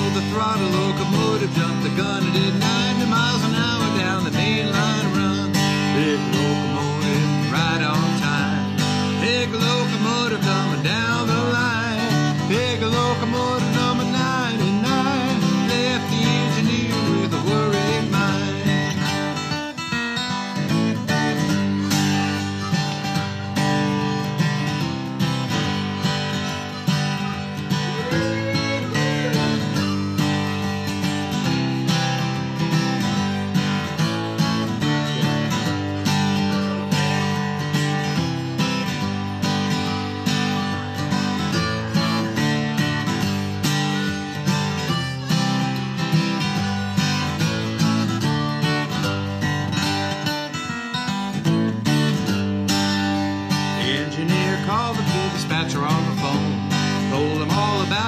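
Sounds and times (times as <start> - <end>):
acoustic guitar strumming: 0.0 - 58.0
sliding guitar notes: 0.0 - 58.0.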